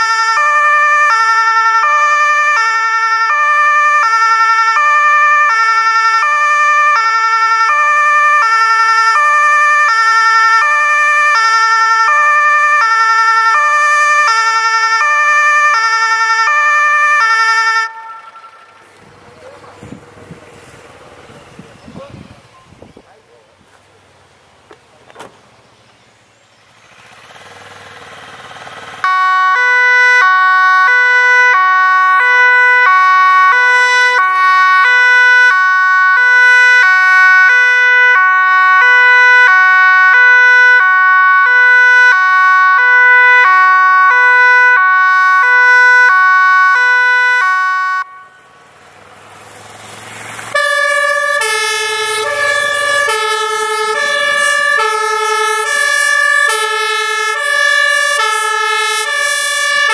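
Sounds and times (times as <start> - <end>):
two-tone siren: 0.0 - 19.0, 29.0 - 48.6, 50.5 - 59.9
lower two-tone siren: 0.0 - 20.0, 29.0 - 48.7, 50.5 - 59.9
vehicle engine: 0.0 - 59.9.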